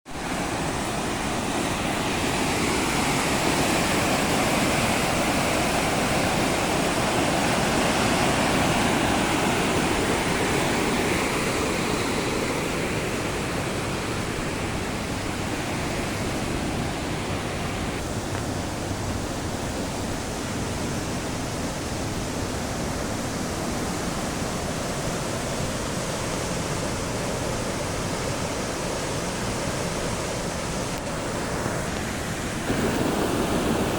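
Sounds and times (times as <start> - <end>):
river rushing over rapids: 0.1 - 33.9.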